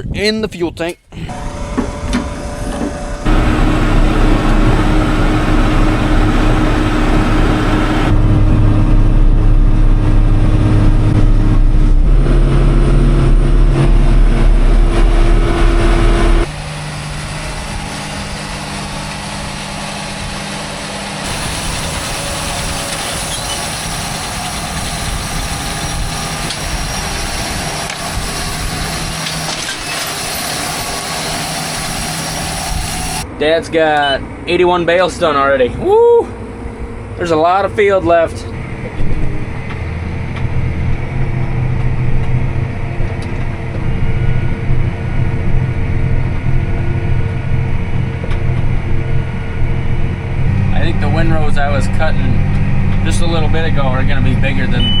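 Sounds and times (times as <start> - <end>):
diesel engine running: 1.1 - 55.0.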